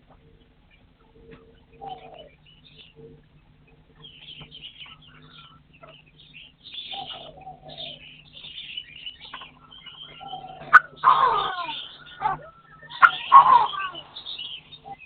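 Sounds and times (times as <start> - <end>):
birds chirping: 0.0 - 15.0
drawn-out bird call: 0.0 - 15.0.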